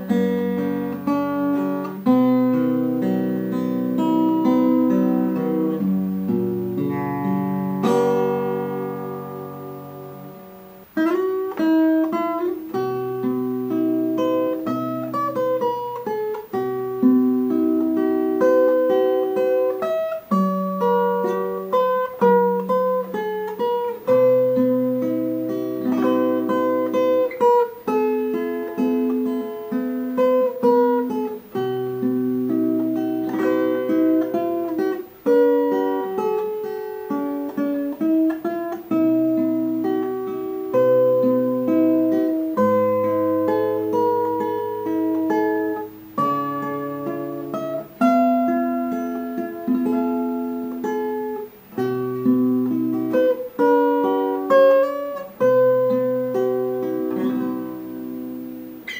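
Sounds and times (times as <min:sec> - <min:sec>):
fingerpicked acoustic guitar: 0:00.0 - 0:58.9.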